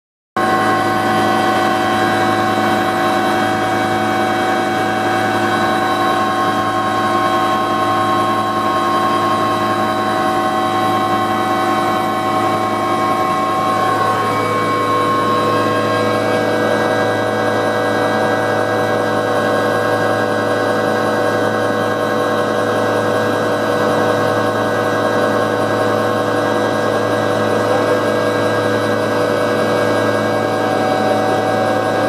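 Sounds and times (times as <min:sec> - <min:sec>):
helicopter rotor drone: 0:00.4 - 0:32.0
helicopter turbine whine: 0:00.4 - 0:32.0.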